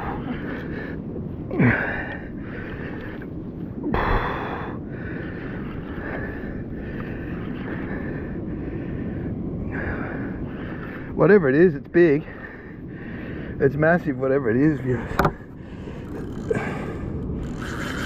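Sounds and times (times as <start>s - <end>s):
water rushing along hull: 0.0s - 18.0s
wind noise on microphone: 0.0s - 18.0s.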